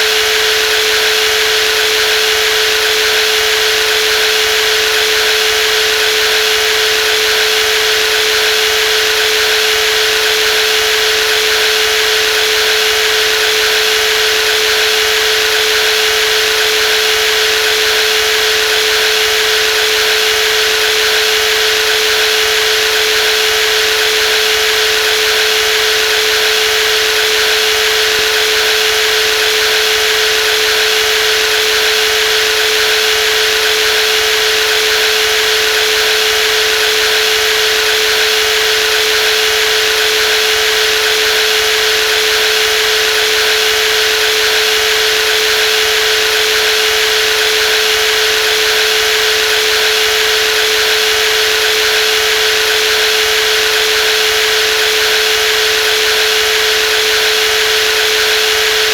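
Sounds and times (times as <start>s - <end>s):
jigsaw running: 0.0s - 58.9s.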